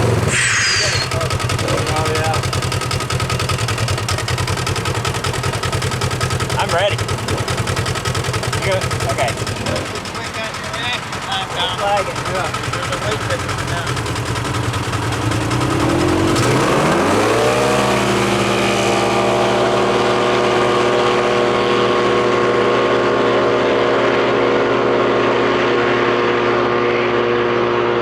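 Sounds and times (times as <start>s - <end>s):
utility vehicle engine revving: 0.0s - 28.0s.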